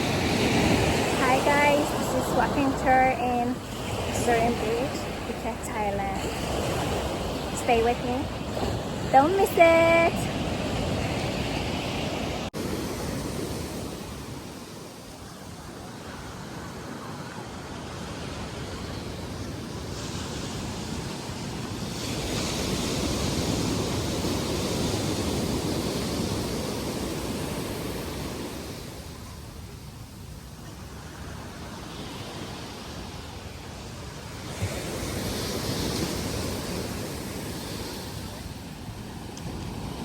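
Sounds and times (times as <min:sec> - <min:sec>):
small waves breaking on beach: 0:00.0 - 0:40.0.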